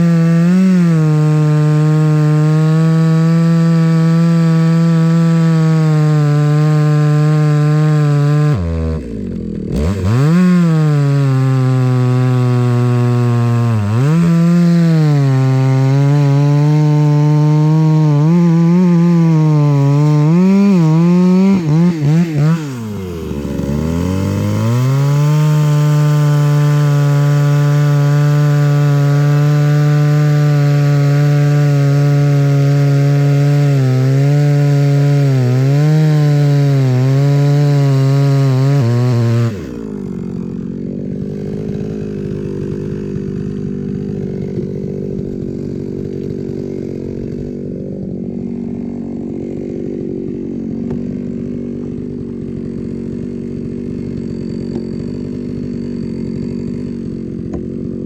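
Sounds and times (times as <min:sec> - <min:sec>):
chainsaw cutting logs: 0:00.0 - 0:58.0.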